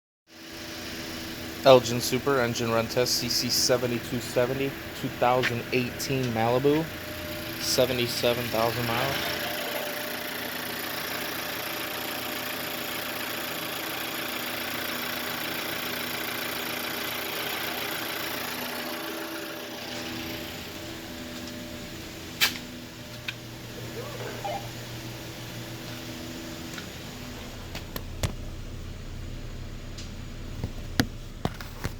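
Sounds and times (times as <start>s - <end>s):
car engine idling: 0.4s - 31.7s.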